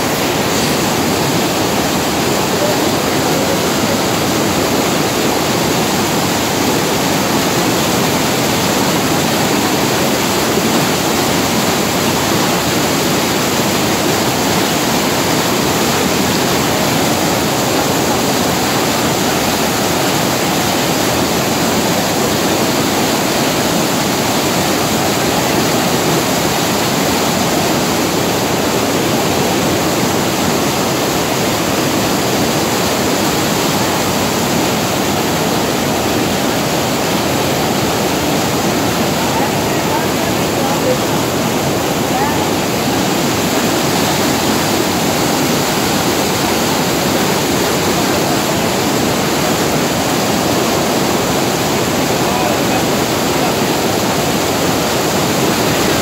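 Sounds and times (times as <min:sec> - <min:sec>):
water cascading over rocks: 0:00.0 - 0:56.0.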